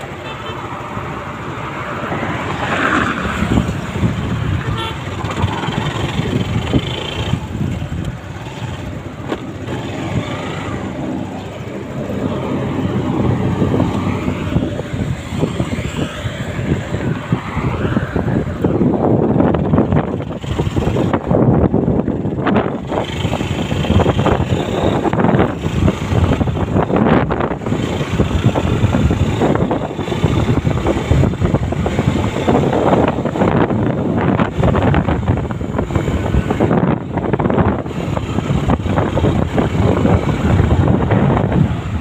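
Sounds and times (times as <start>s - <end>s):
vehicle engine and road noise: 0.0s - 42.0s
wind buffeting microphone: 0.8s - 42.0s.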